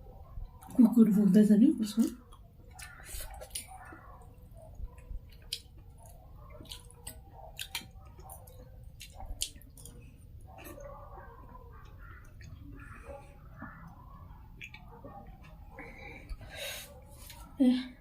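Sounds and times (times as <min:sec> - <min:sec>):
chewing clicks and smacks: 0:02.0 - 0:16.4.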